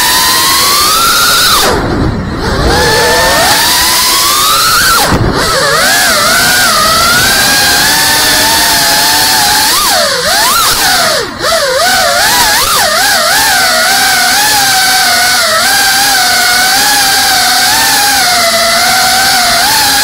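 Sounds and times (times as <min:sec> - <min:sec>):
drone motors and propellers whining: 0:00.0 - 0:20.0.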